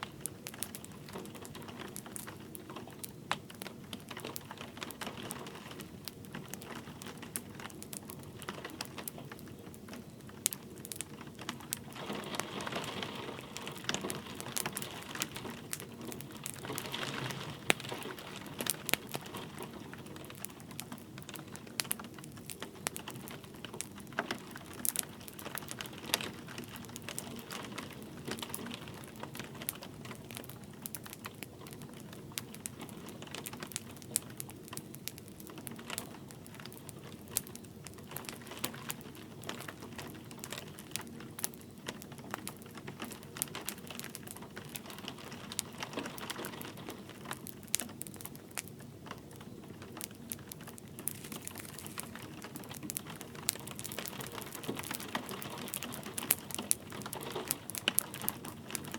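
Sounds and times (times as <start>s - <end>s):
light rain: 0.0s - 58.9s
wood fire crackling: 0.0s - 58.9s.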